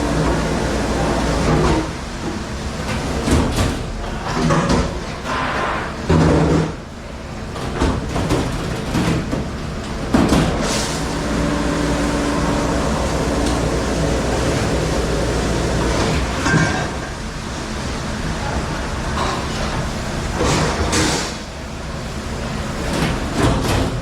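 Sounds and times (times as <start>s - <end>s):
dishwasher humming: 0.0s - 24.0s.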